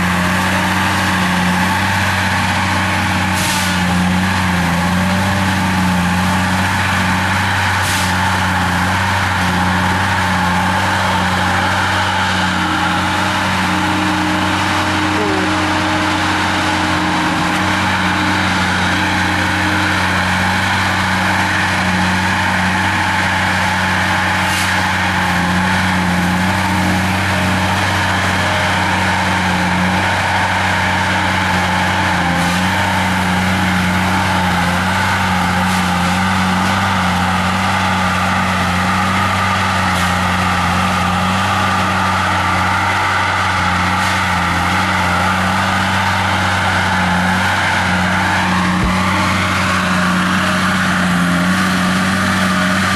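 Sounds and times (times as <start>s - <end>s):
heavy machine engine running: 0.0s - 52.9s.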